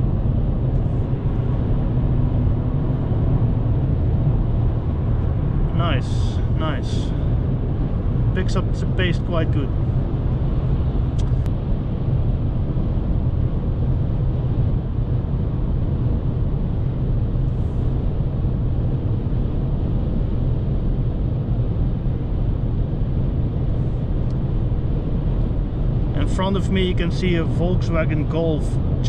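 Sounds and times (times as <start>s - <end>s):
car engine rumble inside cabin: 0.0s - 29.0s
road noise: 0.0s - 29.0s.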